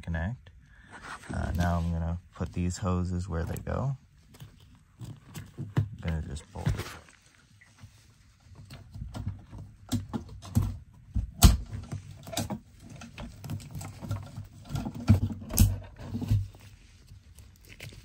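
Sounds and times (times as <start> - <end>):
rustling: 0.8 - 10.9, 11.6 - 18.0.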